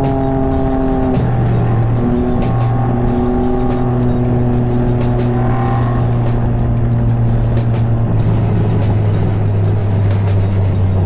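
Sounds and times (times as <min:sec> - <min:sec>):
motorcycle engine drone: 0:00.0 - 0:11.0
wind buffeting microphone: 0:00.0 - 0:11.0.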